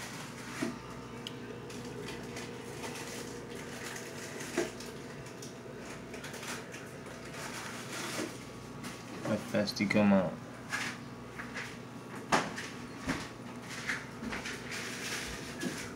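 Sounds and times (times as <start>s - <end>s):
low steady hum: 0.0s - 15.8s.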